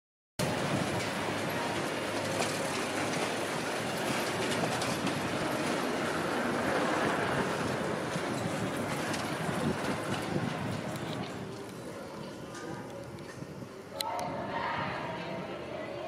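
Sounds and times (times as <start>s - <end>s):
bicycles rattling over cobblestones: 0.4s - 13.9s.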